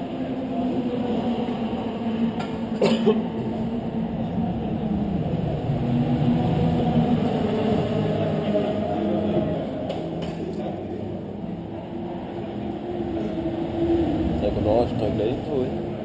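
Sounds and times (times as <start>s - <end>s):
race car engines humming: 0.0s - 16.0s.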